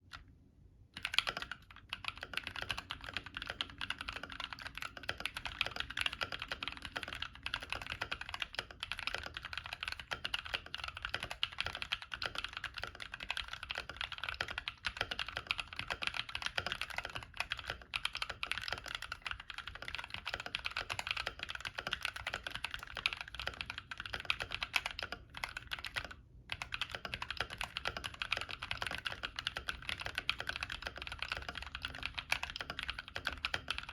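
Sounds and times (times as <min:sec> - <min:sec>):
mechanical keyboard typing: 0:01.0 - 0:33.9.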